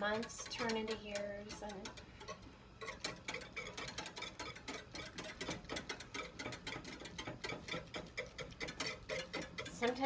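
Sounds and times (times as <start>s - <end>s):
whisk clicking in metal saucepan: 0.0s - 10.0s.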